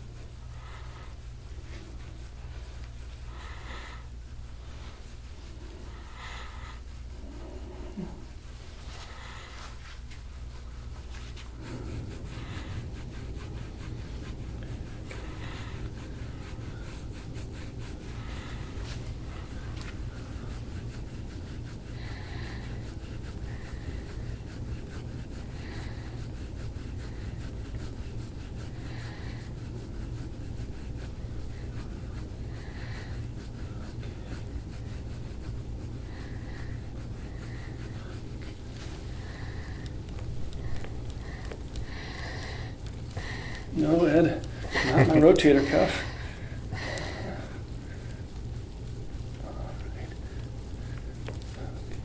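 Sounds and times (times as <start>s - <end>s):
scraping tool rubbing on skin: 0.0s - 52.0s
steady low hum: 0.0s - 52.0s.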